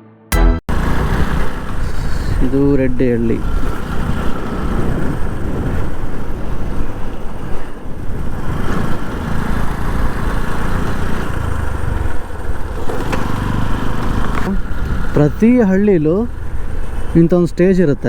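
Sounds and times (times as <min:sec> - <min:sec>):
wind rumble on microphone: 0:00.7 - 0:15.6
motorcycle engine running: 0:00.7 - 0:17.5.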